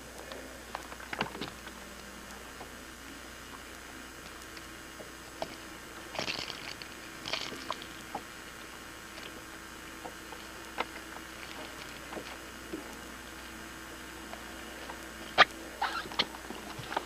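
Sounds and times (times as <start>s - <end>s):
tape hiss: 0.0s - 17.0s.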